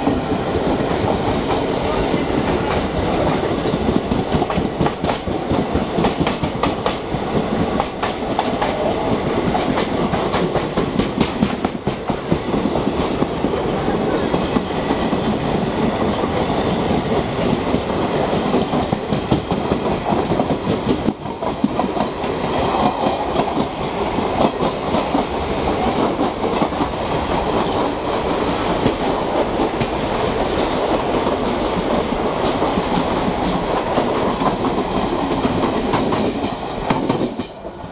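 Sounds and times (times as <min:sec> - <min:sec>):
trains rumbling past: 0:00.0 - 0:37.9
wheels clacking over rail joints: 0:01.1 - 0:37.6.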